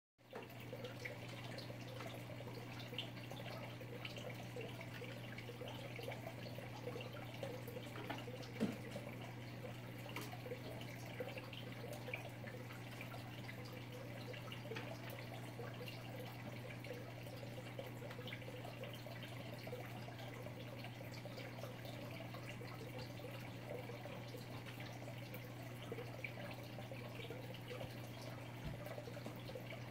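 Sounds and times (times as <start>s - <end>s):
water trickling and dripping: 0.2s - 29.9s.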